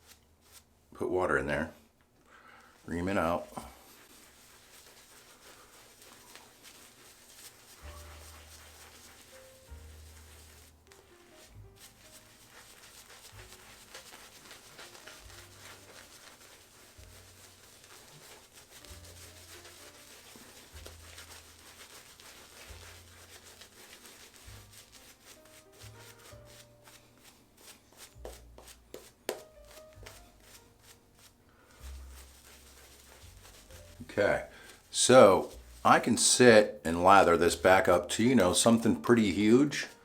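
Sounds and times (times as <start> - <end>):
faint background music: 0.0 - 1.9, 2.8 - 40.0
shaving brush lathering soap: 2.9 - 40.0.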